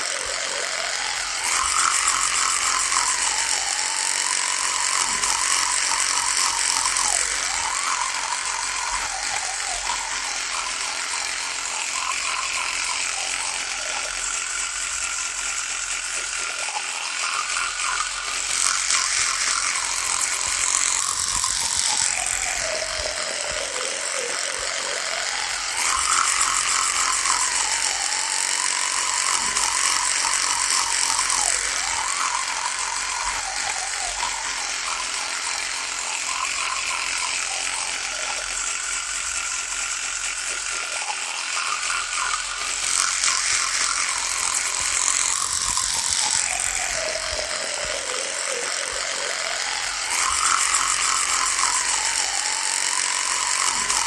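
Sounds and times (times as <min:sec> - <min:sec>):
electric toothbrush buzzing: 0:00.0 - 0:54.0.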